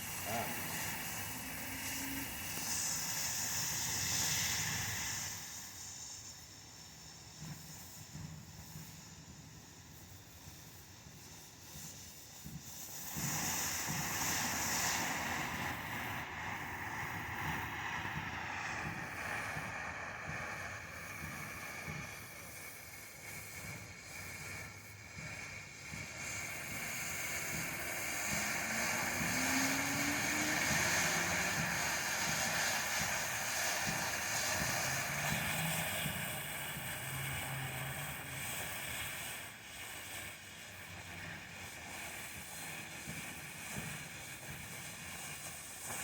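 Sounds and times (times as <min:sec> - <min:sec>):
firework fountain hissing sparks: 0:00.0 - 0:46.0.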